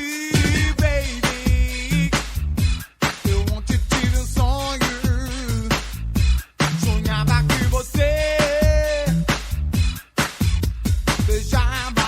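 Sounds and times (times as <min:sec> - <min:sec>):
dance-pop music: 0:00.0 - 0:12.0.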